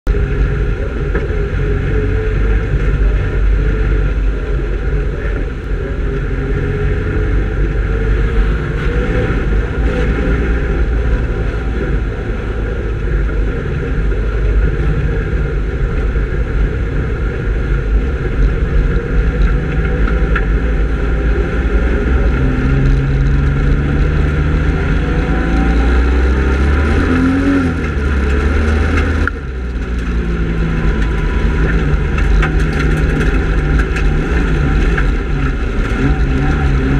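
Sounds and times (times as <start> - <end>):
race car engines revving: 0.0 - 36.9.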